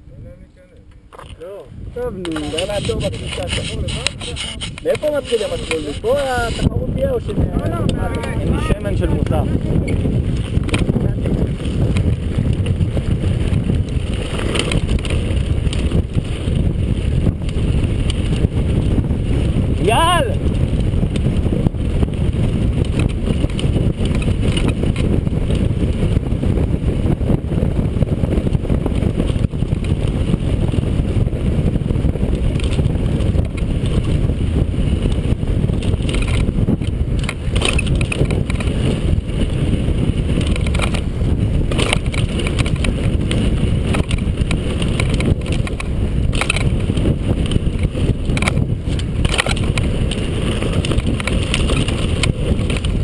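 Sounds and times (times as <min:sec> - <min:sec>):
wind on microphone: 0:00.0 - 0:53.0
bike rattling over bumps: 0:01.0 - 0:53.0
tyres rumbling on gravel: 0:01.1 - 0:27.0, 0:27.6 - 0:53.0.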